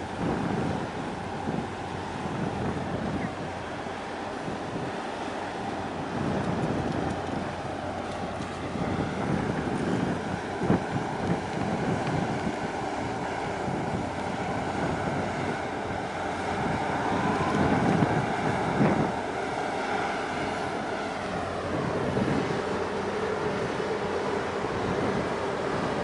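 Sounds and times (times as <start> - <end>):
choppy water: 0.0 - 26.0
wind buffeting microphone: 0.0 - 26.0.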